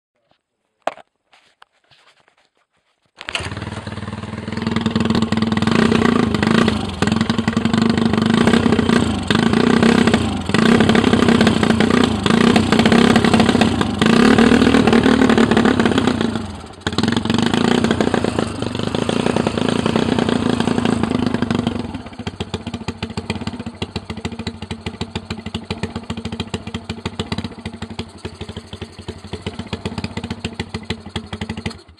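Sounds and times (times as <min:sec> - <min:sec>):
motorcycle engine revving: 0:03.2 - 0:31.9.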